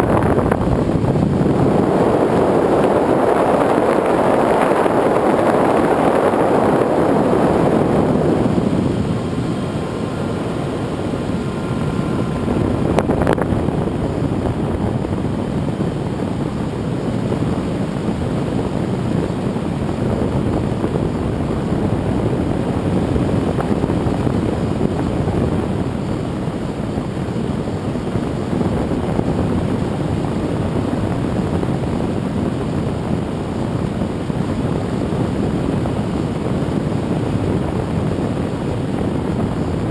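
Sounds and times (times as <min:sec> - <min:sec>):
faint thin whine: 0:00.0 - 0:39.9
model plane propeller drone: 0:00.0 - 0:39.9
wind rushing: 0:00.0 - 0:39.9.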